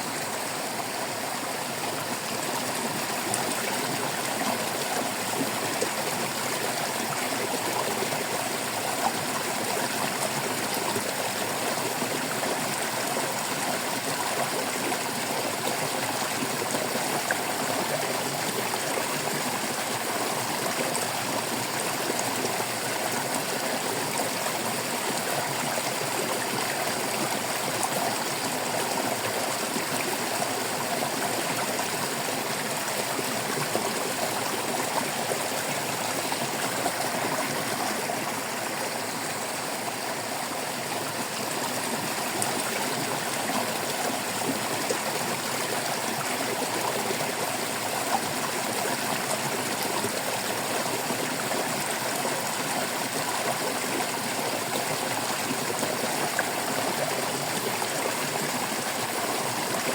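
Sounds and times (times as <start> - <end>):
water babbling in a stream: 0.0 - 59.9.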